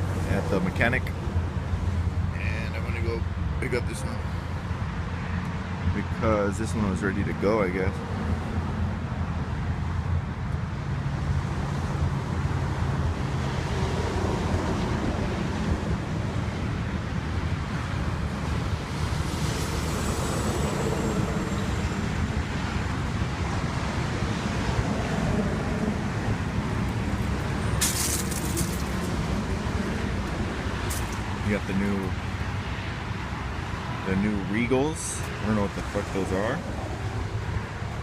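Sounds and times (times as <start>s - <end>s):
road traffic: 0.0s - 38.0s
vehicle engine rumble: 0.0s - 38.0s.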